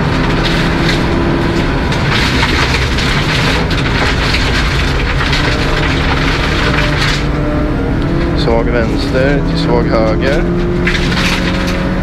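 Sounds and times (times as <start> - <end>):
gravel rattling against car underside: 0.0 - 12.0
rally car engine drone: 0.0 - 12.0.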